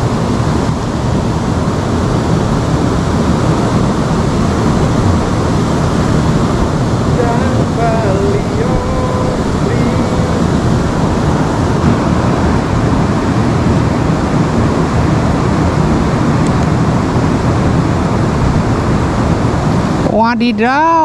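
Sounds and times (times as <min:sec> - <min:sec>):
river water rushing: 0:00.1 - 0:20.1.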